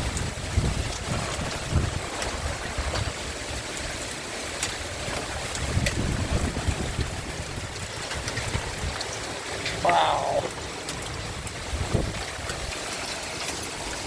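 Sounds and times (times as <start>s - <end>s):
falling hail: 0.0s - 14.0s
hailstones striking hard surfaces: 0.0s - 14.0s
wind buffeting microphone: 0.0s - 14.0s.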